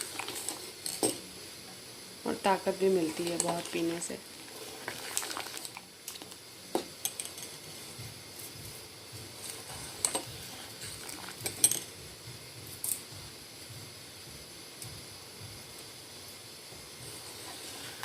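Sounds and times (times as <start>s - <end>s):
hiss of boiling milk: 0.0s - 18.0s.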